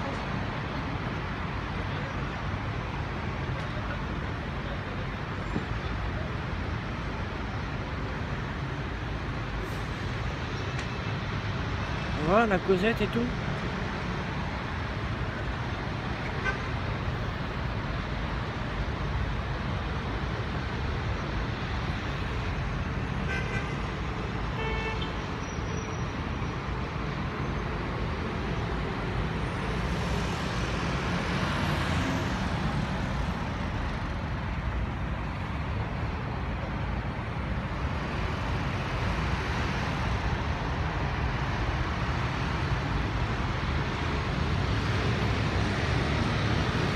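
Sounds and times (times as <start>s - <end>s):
city traffic rumble: 0.0s - 46.9s.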